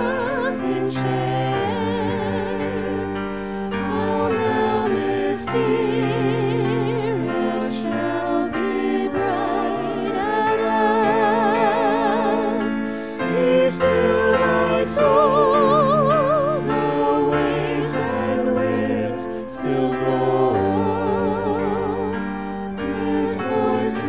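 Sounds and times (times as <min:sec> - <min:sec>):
person singing a hymn with vibrato: 0:00.0 - 0:24.0.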